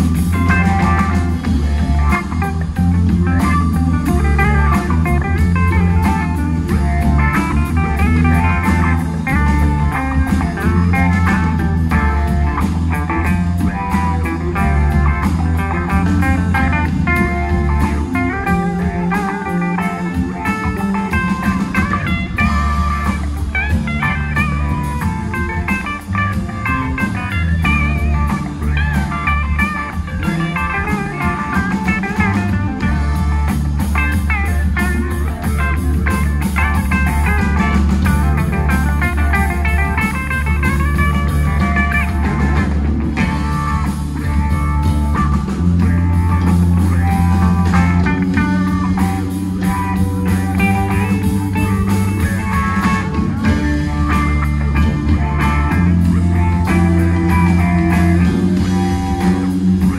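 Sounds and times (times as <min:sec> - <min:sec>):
drum kit: 0:00.0 - 0:59.9
guitar lines: 0:00.0 - 0:59.9
sustained bass notes: 0:00.0 - 0:59.9.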